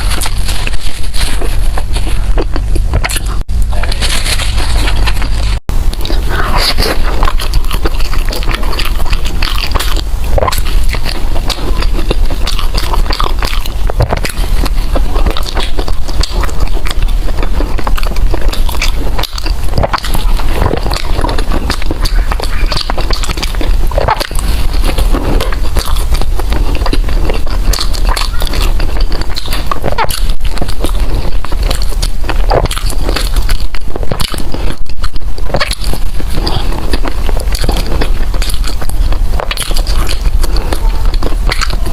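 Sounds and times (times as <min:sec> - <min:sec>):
person biting and chewing food: 0:00.0 - 0:41.9.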